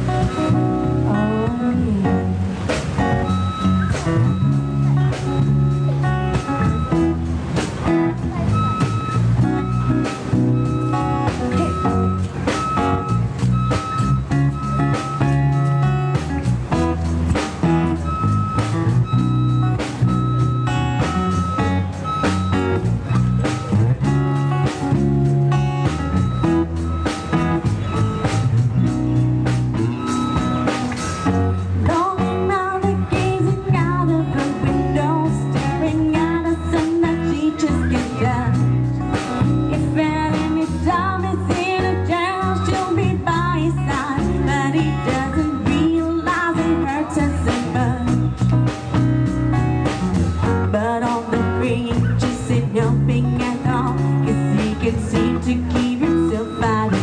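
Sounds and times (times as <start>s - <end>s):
drum kit steady beat: 0.0s - 57.0s
live band through speakers: 0.0s - 57.0s.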